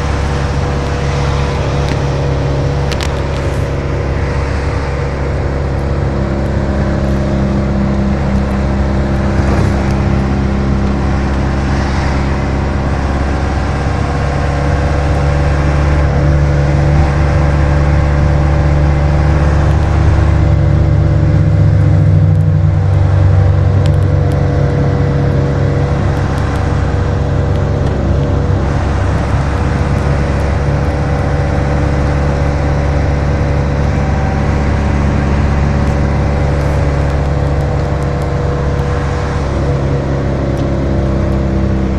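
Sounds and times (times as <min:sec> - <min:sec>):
road noise: 0:00.0 - 0:41.9
vehicle engine hum: 0:00.0 - 0:41.9.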